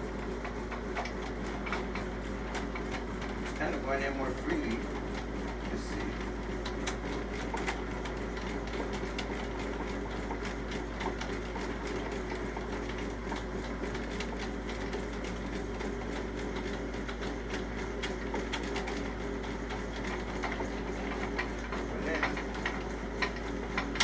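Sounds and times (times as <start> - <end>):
drain snake motor humming: 0.0 - 24.0.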